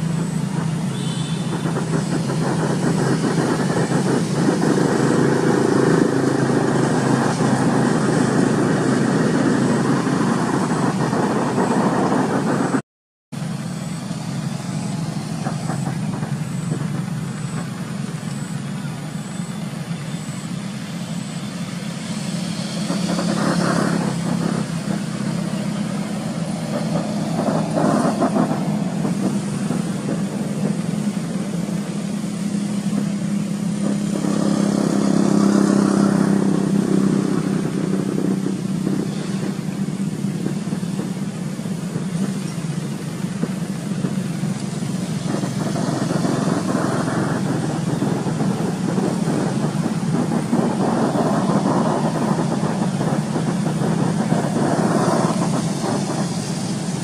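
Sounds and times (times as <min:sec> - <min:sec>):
vehicle engines running: 0:00.0 - 0:57.0.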